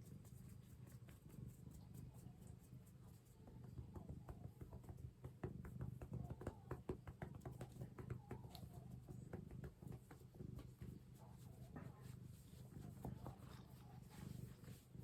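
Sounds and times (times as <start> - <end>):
hand patting cat's fur: 0.0 - 15.0.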